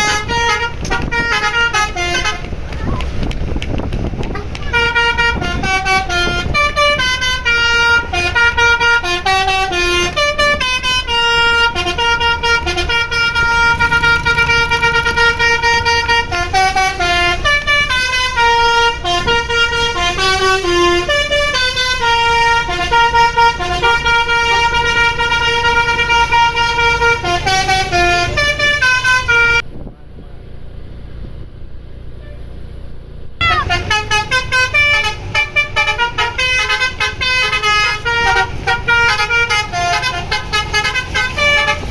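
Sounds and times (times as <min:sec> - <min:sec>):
multi-tone bus horn melody: 0:00.0 - 0:02.7, 0:04.2 - 0:29.6, 0:33.4 - 0:41.9.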